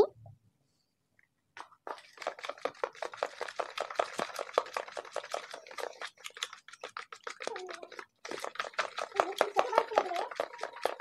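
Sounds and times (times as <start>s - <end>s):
whisk beating eggs in plastic bowl: 1.6s - 11.0s.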